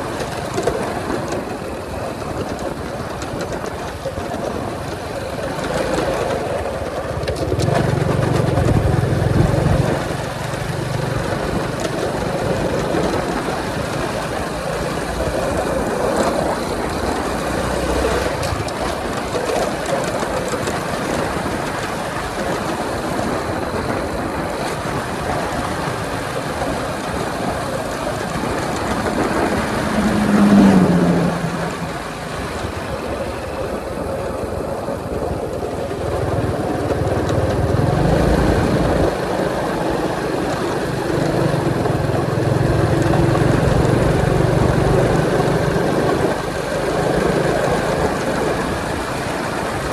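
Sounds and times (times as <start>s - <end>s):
motorcycle engine running steadily: 0.0s - 49.9s
road noise: 0.0s - 49.9s
rushing wind: 0.0s - 49.9s
deeper rumble: 4.0s - 21.7s, 23.4s - 49.9s.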